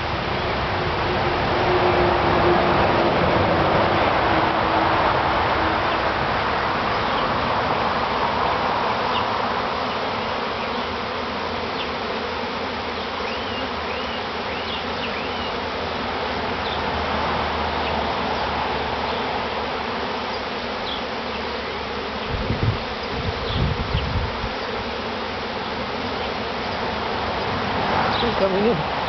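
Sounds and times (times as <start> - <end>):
bee swarm buzzing: 0.0 - 29.0.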